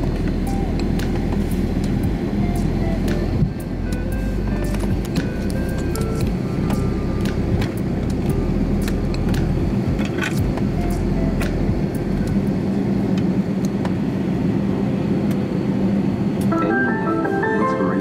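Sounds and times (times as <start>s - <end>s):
aircraft cabin drone: 0.0s - 18.0s.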